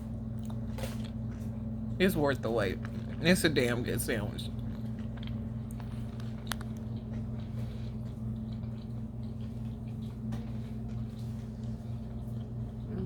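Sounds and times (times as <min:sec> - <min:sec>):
person chewing: 0:00.3 - 0:01.7, 0:02.6 - 0:13.0.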